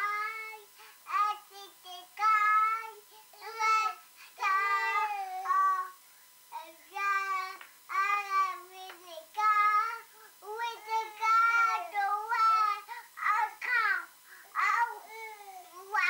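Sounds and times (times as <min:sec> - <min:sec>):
toddler boy singing: 0:00.0 - 0:16.0.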